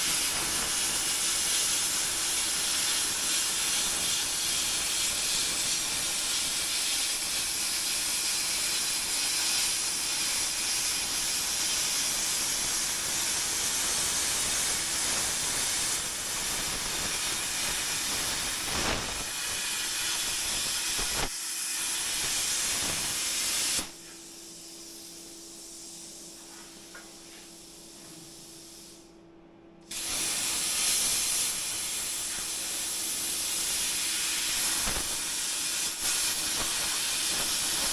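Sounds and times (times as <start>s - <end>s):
cutting torch hissing: 0.0s - 26.2s, 29.9s - 37.9s.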